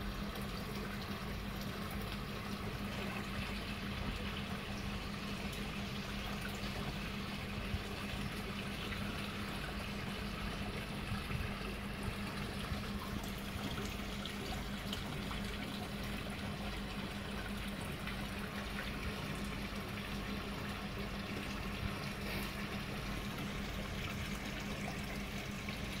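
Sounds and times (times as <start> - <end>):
constant low hum: 0.0 - 26.0
running water trickling: 0.0 - 26.0.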